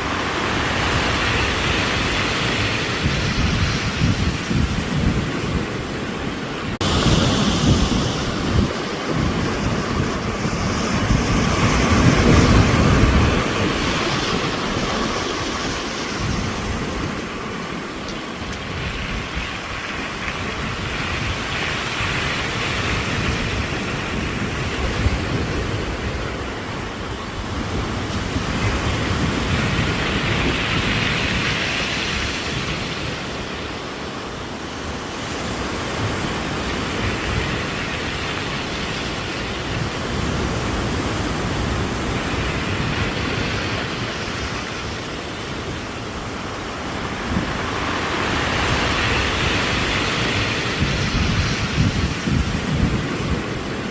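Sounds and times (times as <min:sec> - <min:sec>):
waves breaking on pebbly shore: 0:00.0 - 0:53.9
wind buffeting microphone: 0:00.0 - 0:53.9.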